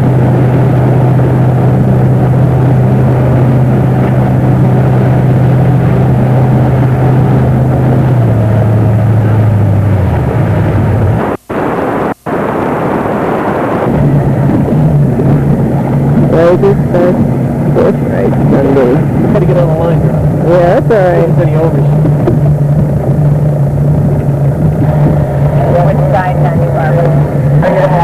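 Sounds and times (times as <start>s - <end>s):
motorboat engine running: 0.0s - 28.0s
rushing water noise: 0.0s - 28.0s.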